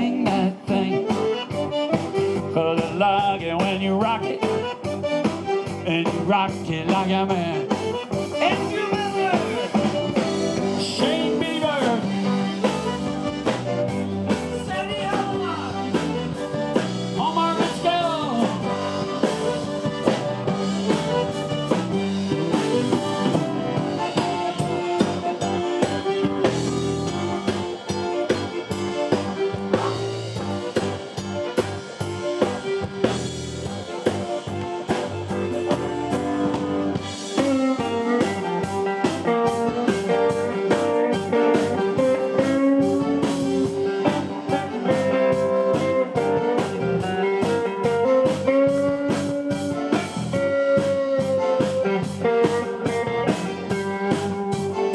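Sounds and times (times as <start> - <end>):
electric guitar: 0.0 - 54.9
steady drum beat: 0.0 - 54.9.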